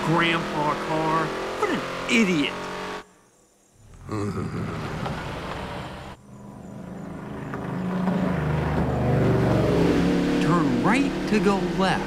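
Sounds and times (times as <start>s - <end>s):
car engine revving and accelerating: 0.0s - 3.0s, 4.5s - 12.0s.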